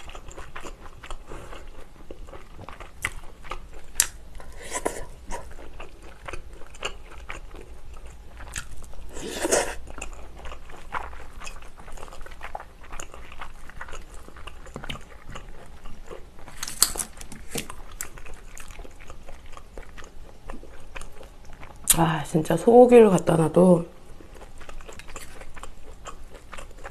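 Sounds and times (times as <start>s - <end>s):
person chewing food: 0.0s - 21.9s, 24.0s - 26.9s.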